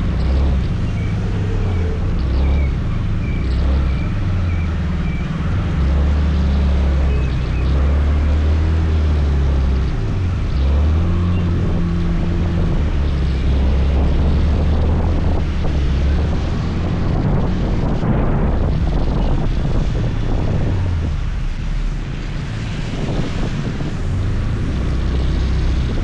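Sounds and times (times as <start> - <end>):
scooter engine humming: 0.0 - 26.0
wind rushing over microphone: 0.0 - 26.0.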